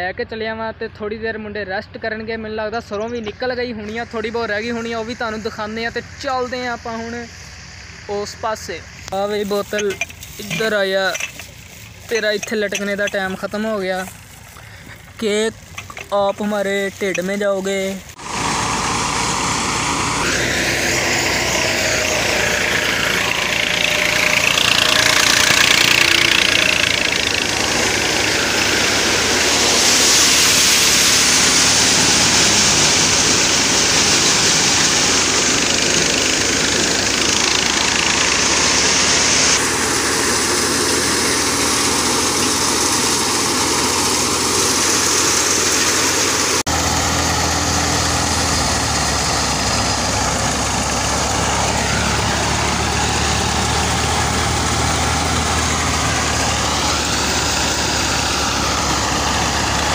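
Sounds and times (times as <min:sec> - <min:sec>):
diesel tractor engine under load: 0:00.0 - 0:59.9
threshing drum whirring: 0:09.0 - 0:59.9.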